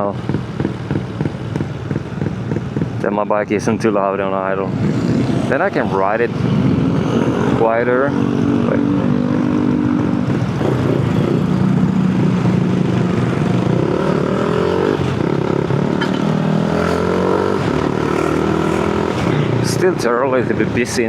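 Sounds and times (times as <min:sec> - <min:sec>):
motorcycle engine revving: 0:00.0 - 0:03.1, 0:04.4 - 0:21.0.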